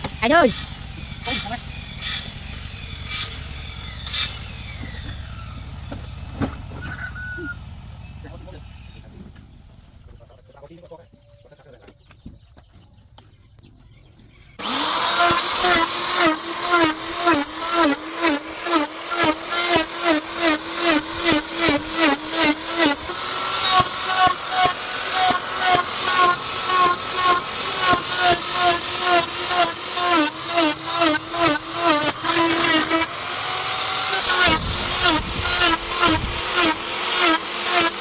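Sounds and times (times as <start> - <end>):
power tool cutting wood: 0.0 - 7.5, 14.6 - 38.0.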